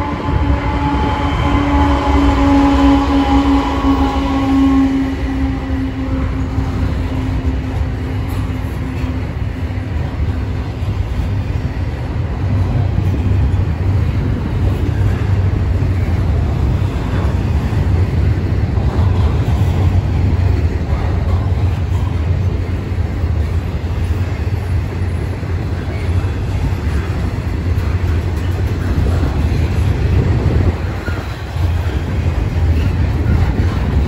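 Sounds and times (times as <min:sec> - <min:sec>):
freight train wheels rumbling on rails: 0:00.0 - 0:34.0.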